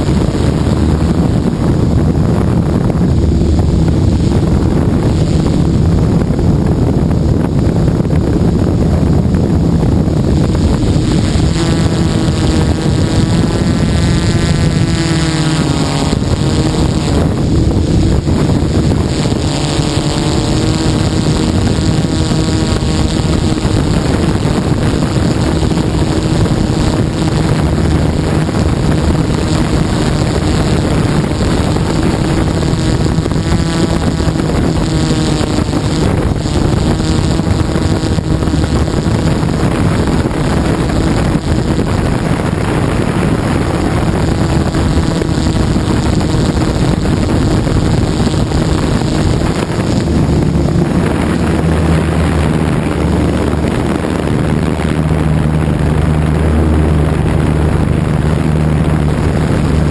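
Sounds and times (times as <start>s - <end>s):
drone motors humming: 0.0s - 59.9s
wind buffeting microphone: 0.0s - 59.9s.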